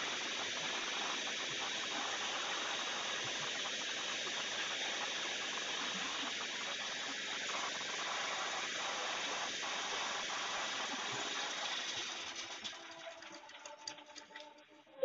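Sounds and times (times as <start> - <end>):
steady hiss: 0.0 - 13.2.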